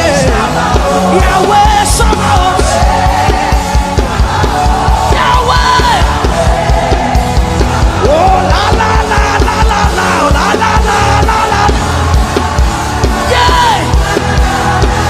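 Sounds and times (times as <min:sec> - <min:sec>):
worship band music: 0:00.0 - 0:15.0.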